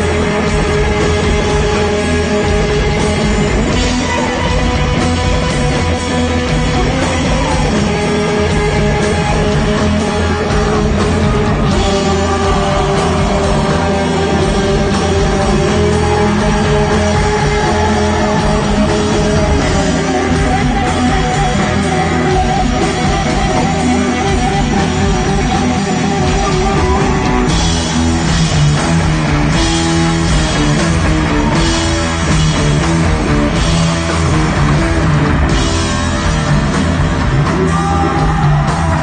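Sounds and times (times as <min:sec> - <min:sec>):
bass guitar: 0:00.0 - 0:39.0
distorted electric guitar: 0:00.0 - 0:39.0
drum kit: 0:00.0 - 0:39.0.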